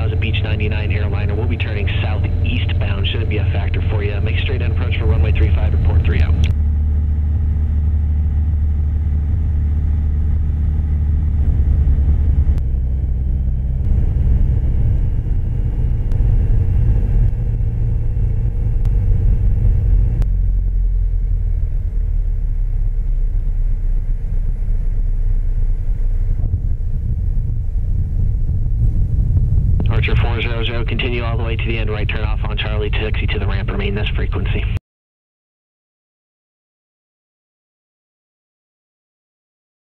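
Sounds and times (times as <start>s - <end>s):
airplane engine and propeller droning: 0.0s - 34.8s.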